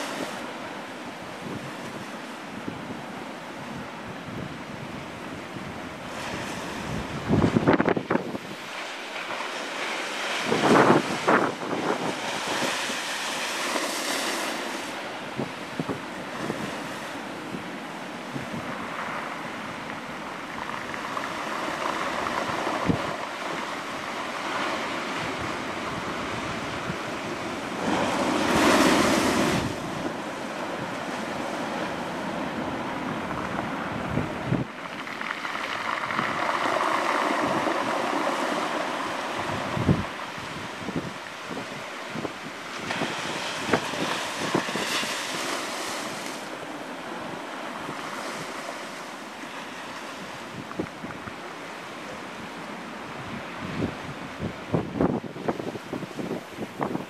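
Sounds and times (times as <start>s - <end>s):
surf breaking on shore: 0.0s - 57.0s
wind buffeting microphone: 0.0s - 57.0s.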